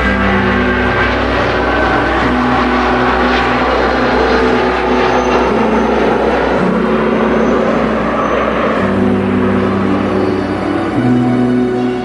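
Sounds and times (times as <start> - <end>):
background music: 0.0 - 12.0
jet engine noise: 0.0 - 12.0.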